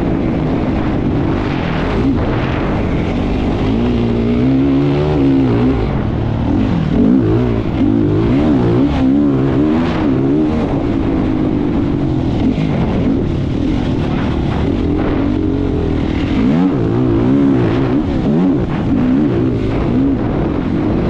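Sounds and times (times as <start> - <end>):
racing engine revving: 0.0 - 21.0.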